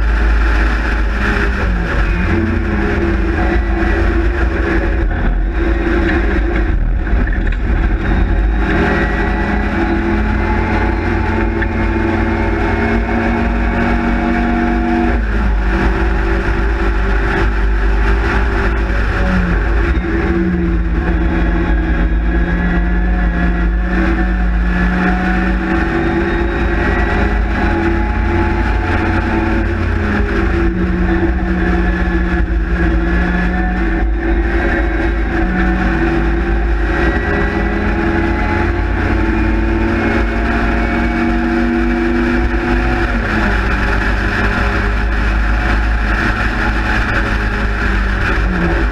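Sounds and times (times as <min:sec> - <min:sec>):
race car engine at high revs: 0:00.0 - 0:48.9
wind and road noise: 0:00.0 - 0:48.9.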